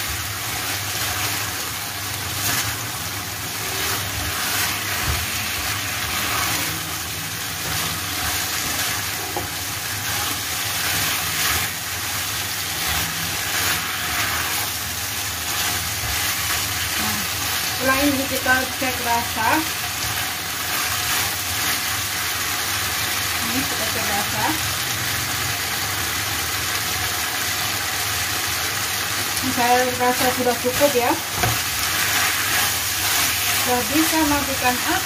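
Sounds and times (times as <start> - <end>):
food sizzling in a frying pan: 0.0 - 35.0.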